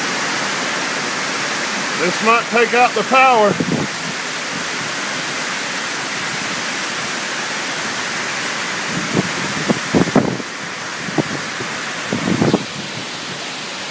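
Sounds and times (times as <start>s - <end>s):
heavy rain falling: 0.0s - 13.9s.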